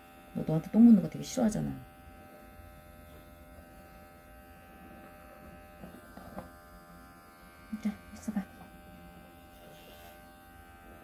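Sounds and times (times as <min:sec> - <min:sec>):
electric hair clipper humming: 0:00.0 - 0:11.0.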